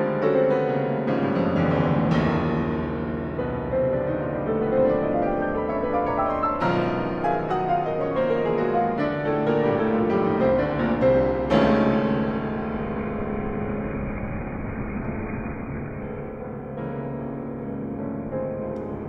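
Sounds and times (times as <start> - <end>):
loud piano chord: 0.0 - 19.0
solo piano music: 0.0 - 19.0.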